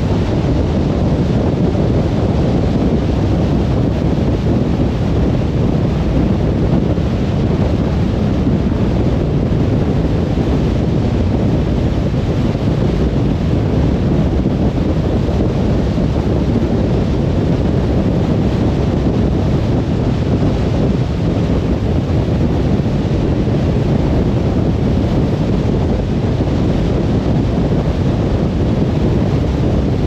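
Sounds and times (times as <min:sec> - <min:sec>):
wind noise: 0:00.0 - 0:30.0.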